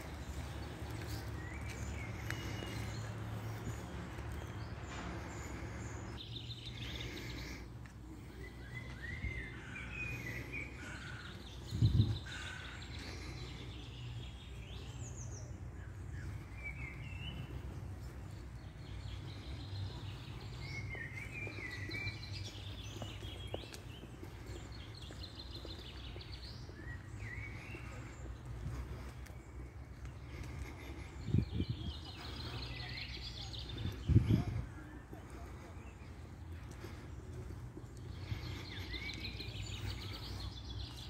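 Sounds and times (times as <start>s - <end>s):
low outdoor rumble: 0.0s - 25.1s, 25.9s - 41.0s
small birds chirping: 0.0s - 41.0s.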